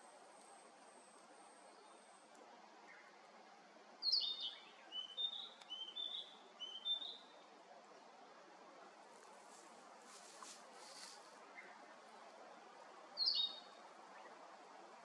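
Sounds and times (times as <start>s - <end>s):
faint outdoor hiss: 0.0s - 15.0s
songbird chirping: 0.0s - 15.0s.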